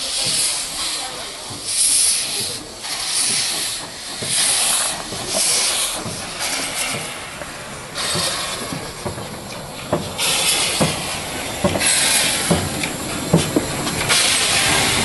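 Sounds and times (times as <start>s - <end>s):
steam locomotive hissing bursts: 0.0s - 15.0s.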